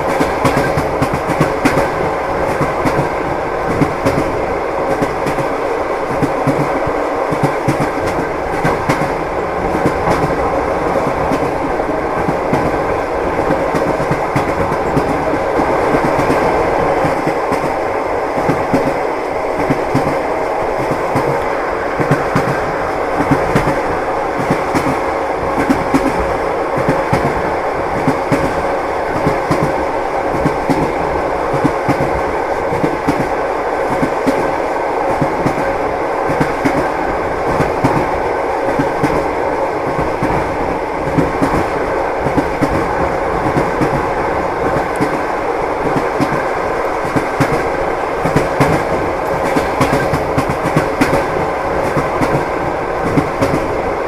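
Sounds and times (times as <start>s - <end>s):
train wheels clattering: 0.0s - 53.8s.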